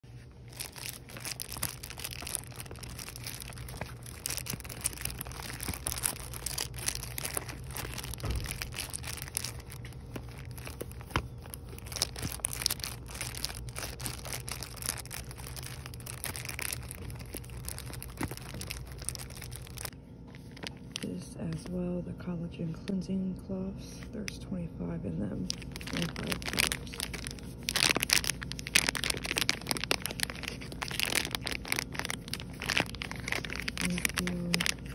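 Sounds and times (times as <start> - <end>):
low hum: 0.0 - 34.9
plastic wrapper crinkling: 0.1 - 21.8, 25.4 - 34.9.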